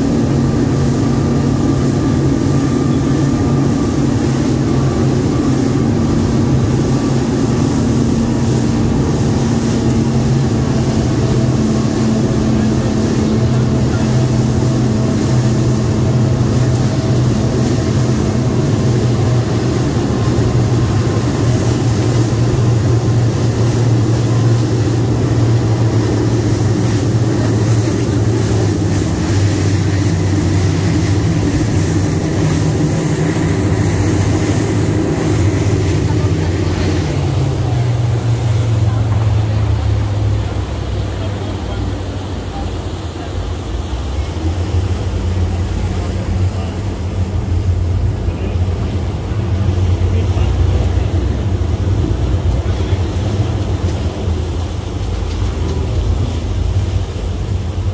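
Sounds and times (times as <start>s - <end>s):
speedboat engine drone: 0.0s - 57.9s
water rushing: 0.0s - 57.9s.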